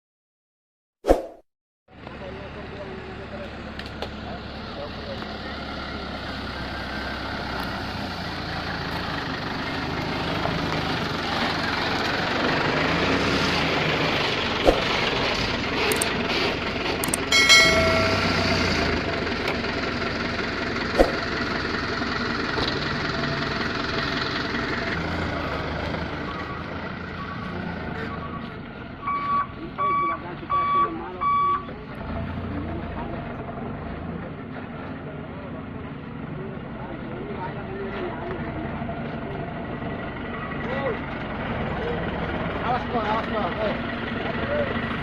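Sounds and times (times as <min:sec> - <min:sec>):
truck engine running: 0:02.0 - 0:45.0.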